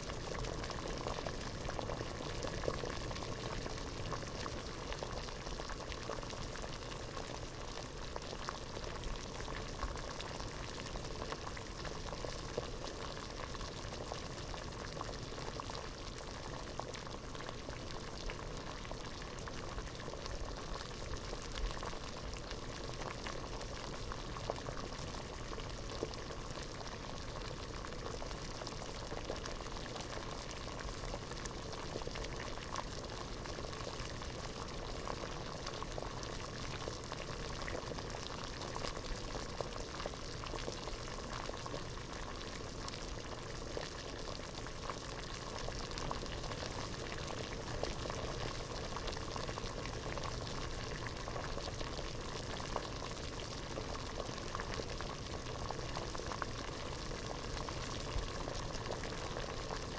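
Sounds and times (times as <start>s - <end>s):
water boiling in a pot: 0.0s - 59.9s.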